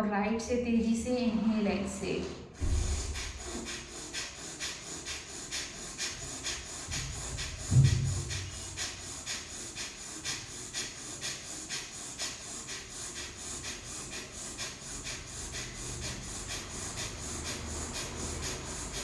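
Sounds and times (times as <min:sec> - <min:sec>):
forceful nasal breathing: 0:02.5 - 0:19.0.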